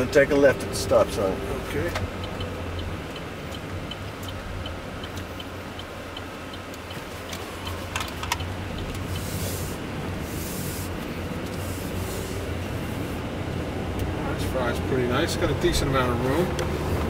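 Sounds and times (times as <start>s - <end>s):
car interior hum: 0.0s - 17.0s
road and wind noise: 0.0s - 17.0s
turn signal ticking: 0.0s - 17.0s.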